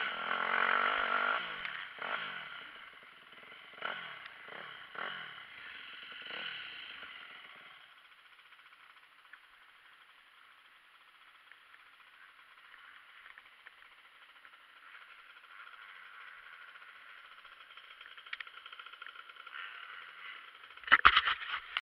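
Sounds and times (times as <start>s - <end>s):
muffled dirt bike engine: 0.0s - 21.8s.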